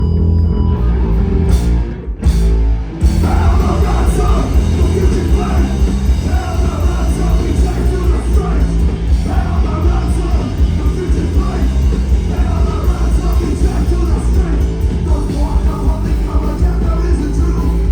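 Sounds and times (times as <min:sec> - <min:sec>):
heavy rock band playing: 0:00.0 - 0:17.9
person singing: 0:03.2 - 0:17.9.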